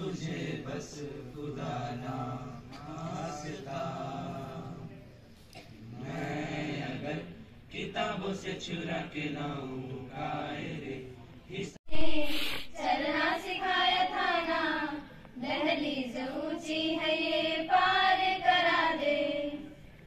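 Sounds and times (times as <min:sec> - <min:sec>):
girls singing in unison: 0:00.0 - 0:04.9, 0:05.9 - 0:20.0
boys singing together: 0:00.0 - 0:05.0, 0:05.8 - 0:11.8, 0:12.7 - 0:19.8.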